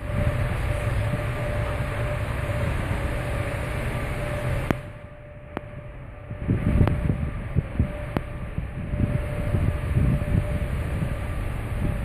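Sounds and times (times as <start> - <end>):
low hum: 0.0 - 12.0
ship machinery and ventilation: 0.0 - 12.0
wind: 0.0 - 12.0.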